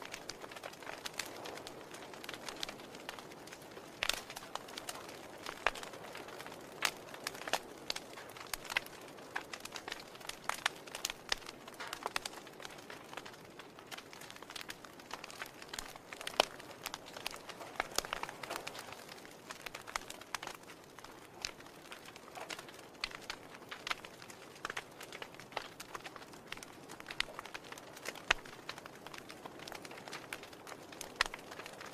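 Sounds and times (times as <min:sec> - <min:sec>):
logs crackling and popping: 0:00.0 - 0:31.9.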